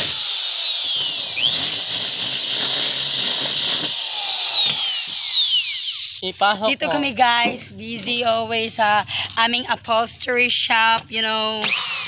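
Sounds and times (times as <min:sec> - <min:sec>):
electric drill whining: 0:00.0 - 0:09.5, 0:10.8 - 0:12.0.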